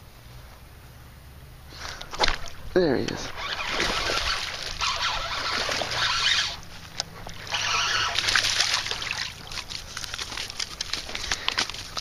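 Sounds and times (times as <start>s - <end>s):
fish splashing in water: 1.8s - 12.0s
sharp water slaps: 2.0s - 12.0s.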